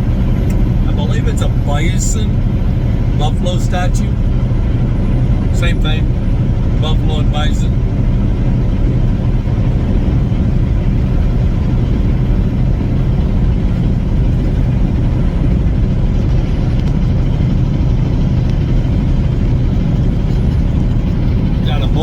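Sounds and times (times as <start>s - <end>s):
road and engine rumble inside vehicle: 0.0s - 22.0s.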